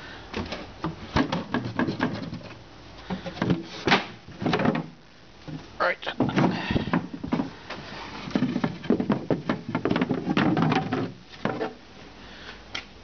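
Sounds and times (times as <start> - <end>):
wood knocking and scraping on wood: 0.3 - 11.8.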